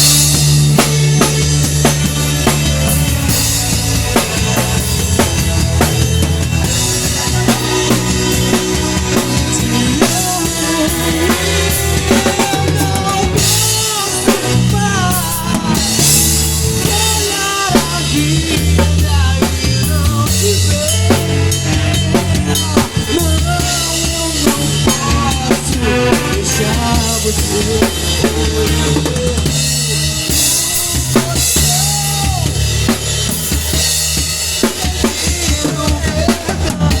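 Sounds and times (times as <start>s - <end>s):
bending lead melody: 0.0s - 37.0s
drum kit beating rhythm: 0.0s - 37.0s
running bass line: 0.0s - 37.0s.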